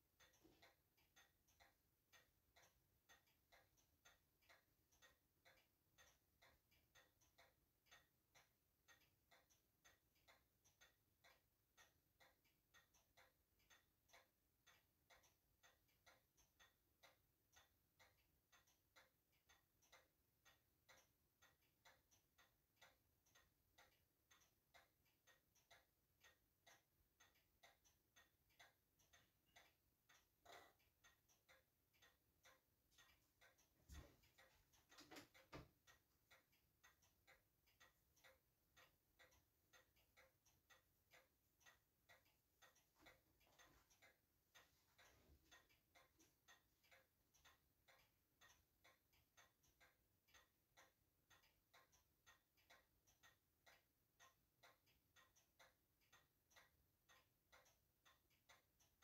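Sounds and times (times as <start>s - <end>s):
faint steady ticking: 0.0s - 59.0s.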